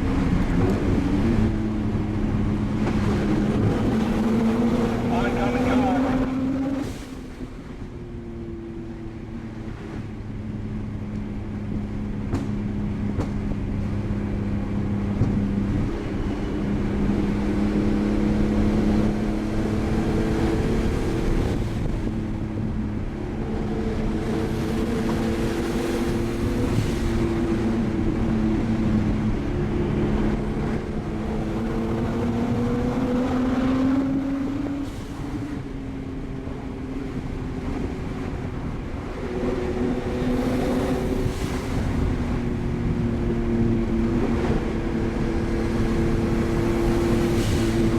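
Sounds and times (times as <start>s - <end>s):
car engine revving under load: 0.0s - 7.8s, 8.8s - 47.9s.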